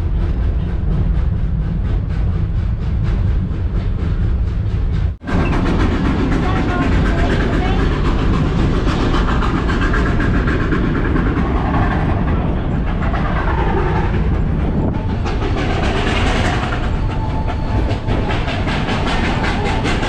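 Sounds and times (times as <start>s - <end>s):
train wheels clickety-clack: 0.0s - 20.0s.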